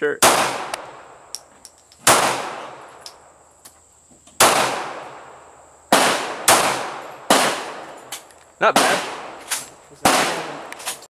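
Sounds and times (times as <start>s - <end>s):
pistol shots echoing: 0.2s - 1.4s, 2.0s - 3.2s, 4.4s - 11.0s.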